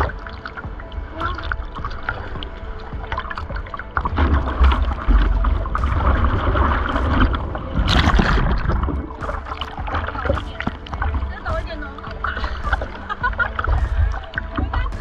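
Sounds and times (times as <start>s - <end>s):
water splashing around surfboard: 0.0s - 15.0s
wind on microphone: 0.0s - 15.0s.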